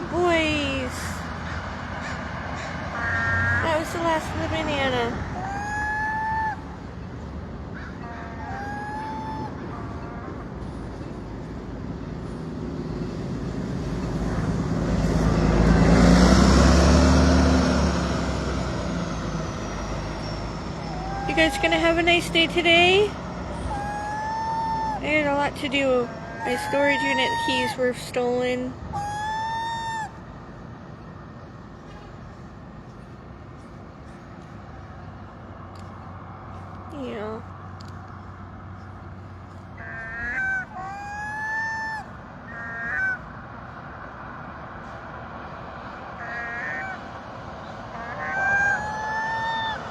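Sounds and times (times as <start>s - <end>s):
road traffic rumble: 0.0s - 49.9s
vehicle driving past: 0.3s - 11.2s, 11.9s - 49.9s.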